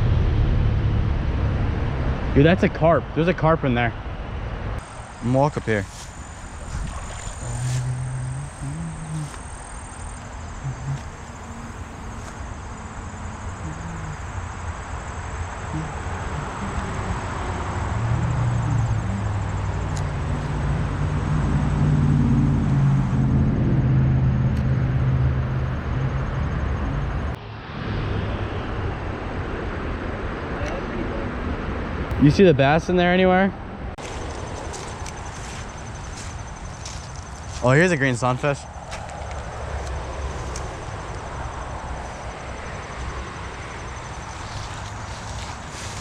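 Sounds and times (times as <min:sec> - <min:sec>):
engine low drone: 0:00.0 - 0:32.3, 0:33.6 - 0:46.0
highway traffic rushing: 0:00.0 - 0:46.0.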